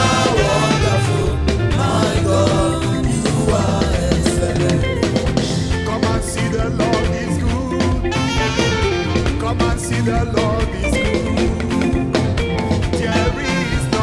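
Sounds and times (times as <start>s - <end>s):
drum kit steady beat: 0.0s - 14.0s
gospel band music: 0.0s - 14.0s.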